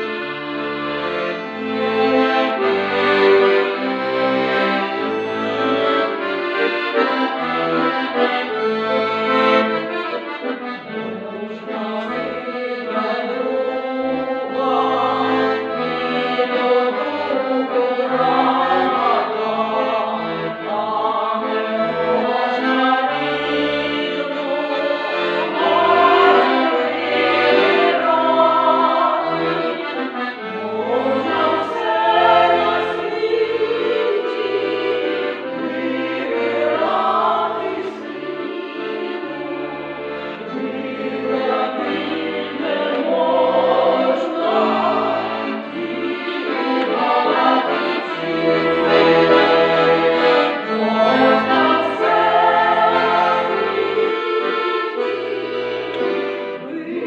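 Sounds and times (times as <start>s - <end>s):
accordion playing folk tune: 0.0s - 57.0s
choir singing: 0.0s - 57.0s.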